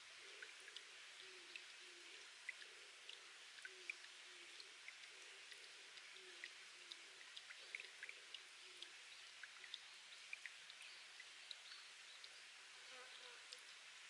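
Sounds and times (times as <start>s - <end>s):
water trickling over rock: 0.0s - 14.0s.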